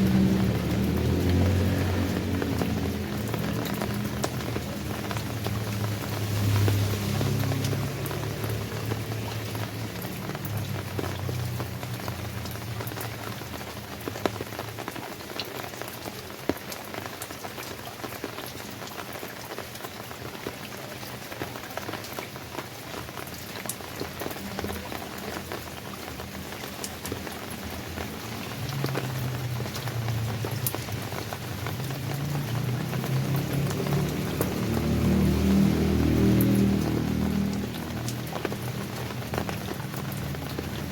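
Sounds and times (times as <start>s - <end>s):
rain drops on hard surface: 0.0s - 40.9s.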